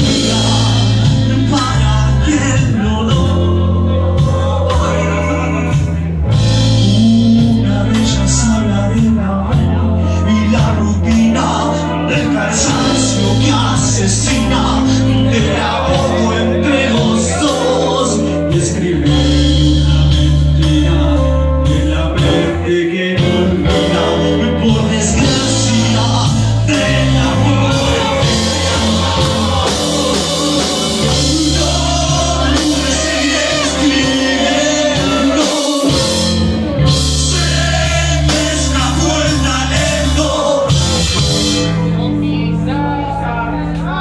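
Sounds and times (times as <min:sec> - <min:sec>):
bass guitar: 0:00.0 - 0:44.0
drum kit: 0:00.0 - 0:44.0
electric guitars: 0:00.0 - 0:44.0
man singing: 0:00.0 - 0:44.0.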